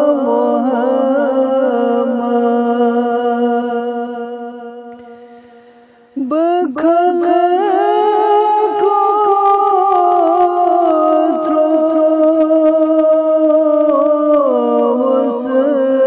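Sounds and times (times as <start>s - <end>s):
person singing devotional song: 0.0s - 16.0s.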